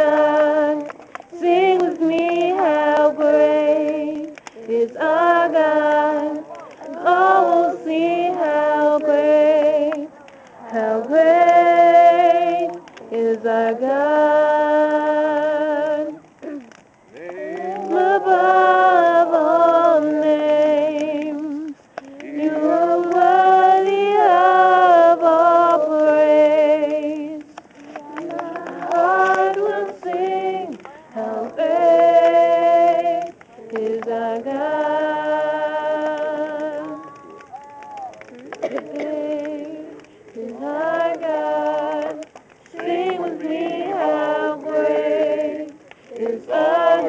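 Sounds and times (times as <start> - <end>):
person singing slow melody: 0.0 - 47.0.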